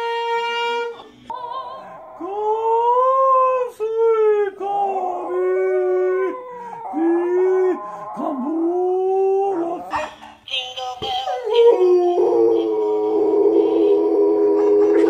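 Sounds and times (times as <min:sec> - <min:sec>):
dog howling: 0:00.6 - 0:10.0, 0:11.5 - 0:15.0.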